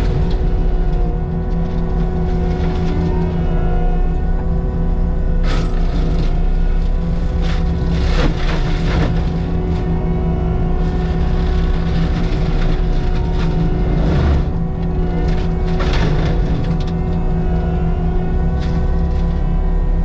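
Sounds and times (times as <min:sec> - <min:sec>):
constant whine: 0:00.0 - 0:20.0
diesel engine drone: 0:00.0 - 0:20.0.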